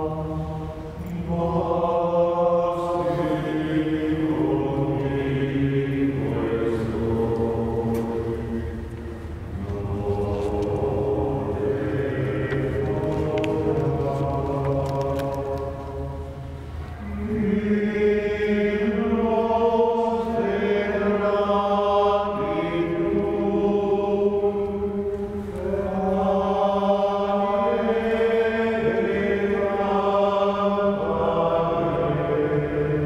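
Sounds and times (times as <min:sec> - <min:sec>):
voices singing a chant: 0:00.0 - 0:33.0.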